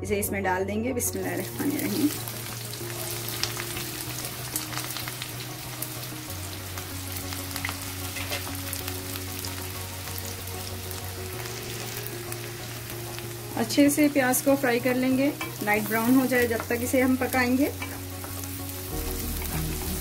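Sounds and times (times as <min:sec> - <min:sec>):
onions sizzling in hot oil: 0:01.2 - 0:20.0.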